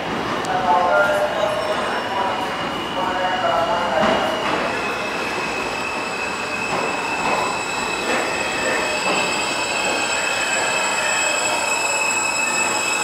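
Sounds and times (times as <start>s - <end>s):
train wheels squealing on rails: 0.0s - 13.0s.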